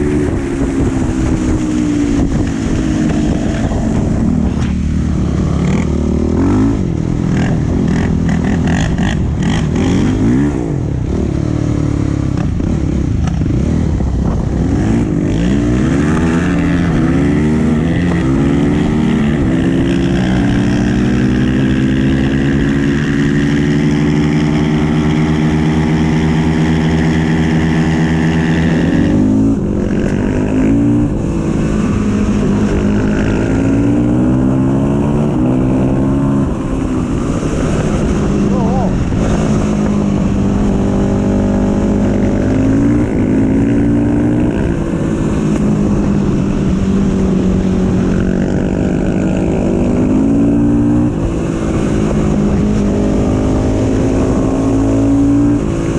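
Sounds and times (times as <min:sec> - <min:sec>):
quad bike engine revving: 0:00.0 - 0:55.9.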